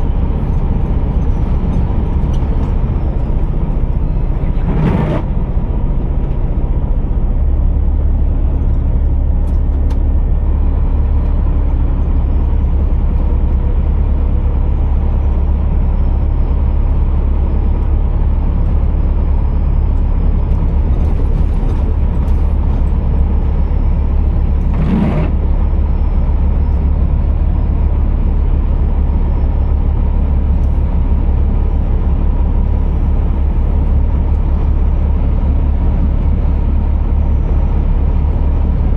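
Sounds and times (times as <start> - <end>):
diesel truck engine droning: 0.0 - 38.9.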